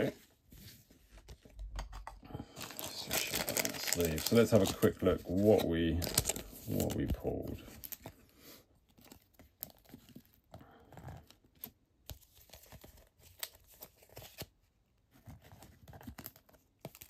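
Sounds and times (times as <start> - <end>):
plastic card sleeves rustling: 0.1 - 14.6.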